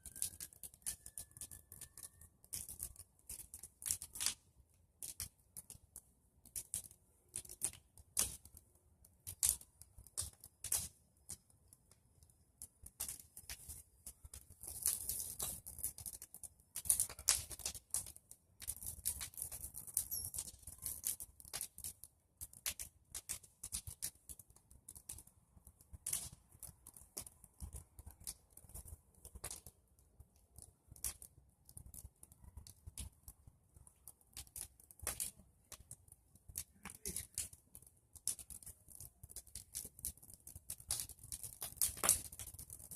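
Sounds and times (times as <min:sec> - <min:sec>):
bonfire crackling and popping: 0:00.0 - 0:42.9.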